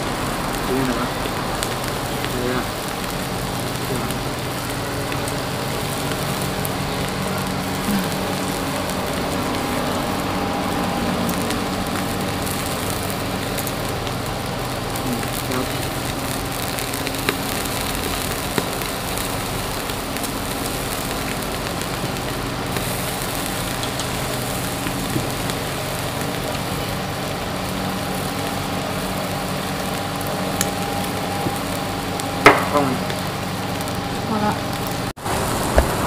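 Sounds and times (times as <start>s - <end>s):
low hum: 0.0s - 36.0s
meat sizzling on grill pan: 0.0s - 36.0s.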